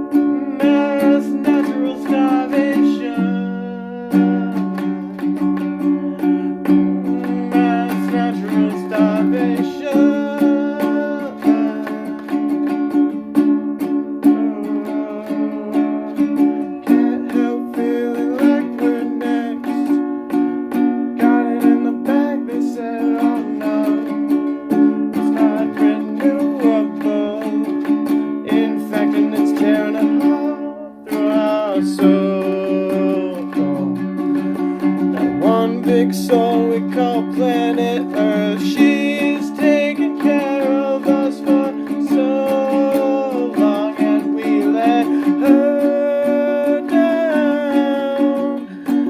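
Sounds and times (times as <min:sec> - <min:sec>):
acoustic string instrument strummed: 0:00.0 - 0:49.0.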